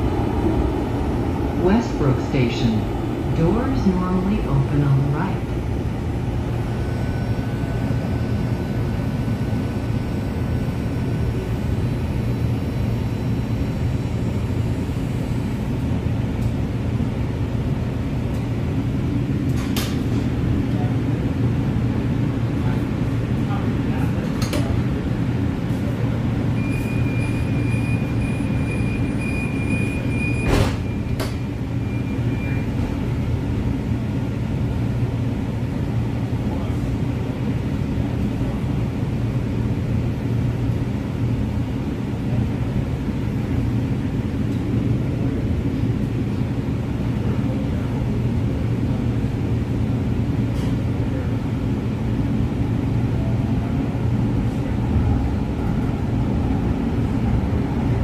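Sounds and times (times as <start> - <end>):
low drone in rail car: 0.0 - 58.0.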